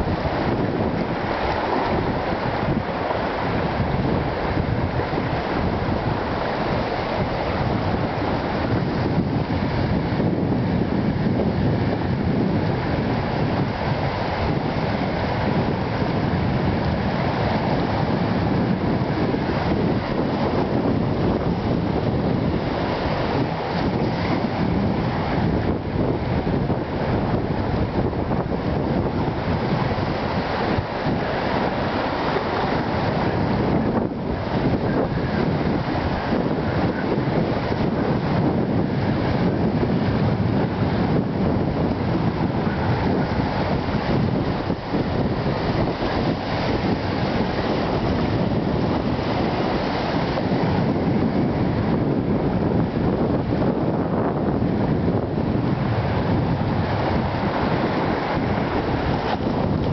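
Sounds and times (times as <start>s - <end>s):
waves washing against rocks: 0.0s - 59.9s
wind buffeting microphone: 0.0s - 59.9s.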